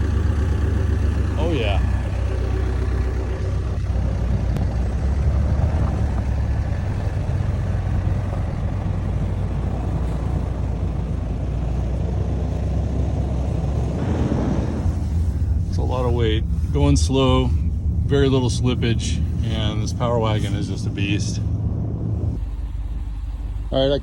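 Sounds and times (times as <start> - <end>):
truck engine under load: 0.0 - 24.0.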